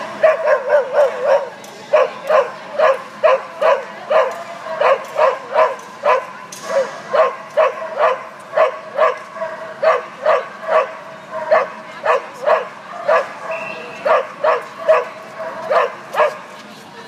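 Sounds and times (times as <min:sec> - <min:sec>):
dog barking: 0:00.2 - 0:16.4.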